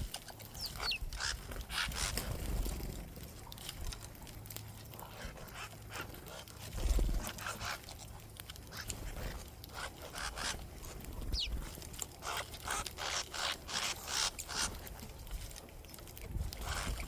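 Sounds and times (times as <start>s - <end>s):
wings fluttering: 0.0s - 17.0s.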